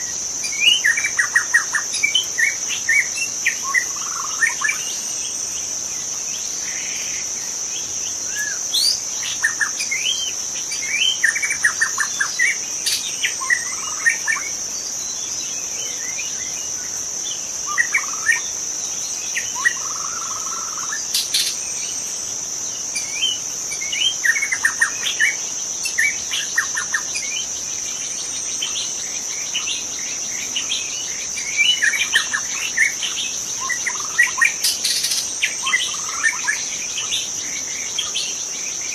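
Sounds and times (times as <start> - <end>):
bird singing whistles and trills: 0.0 - 22.0, 22.8 - 38.9
high-pitched insect drone: 0.0 - 38.9.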